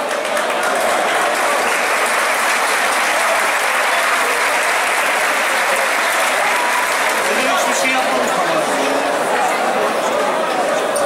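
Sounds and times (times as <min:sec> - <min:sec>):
crowd clapping and cheering: 0:00.0 - 0:11.0.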